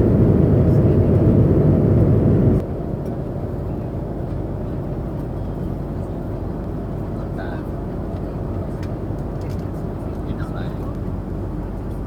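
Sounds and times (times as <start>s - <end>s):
jet cabin engine rumble: 0.0s - 12.0s.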